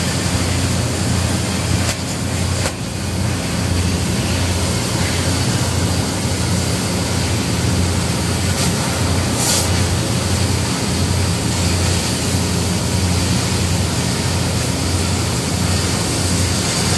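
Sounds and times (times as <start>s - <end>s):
cutting torch hissing: 0.0s - 16.9s.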